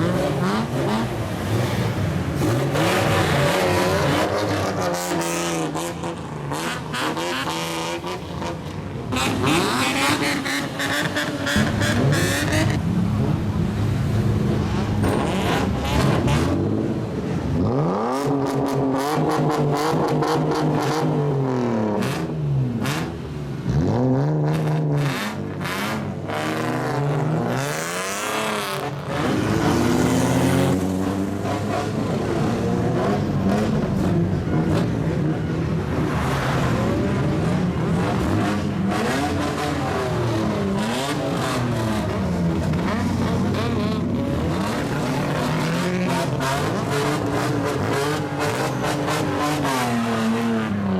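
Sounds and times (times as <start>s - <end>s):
cars revving past: 0.0s - 50.9s.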